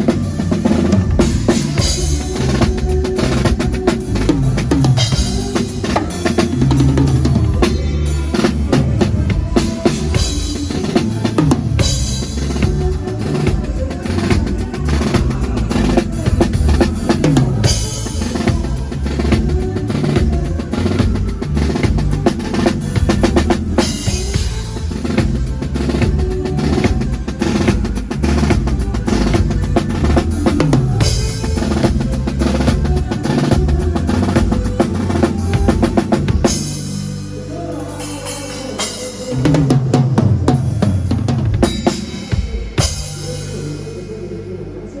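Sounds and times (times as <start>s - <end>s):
drum kit playing: 0.0s - 44.2s
bass line: 0.0s - 45.0s.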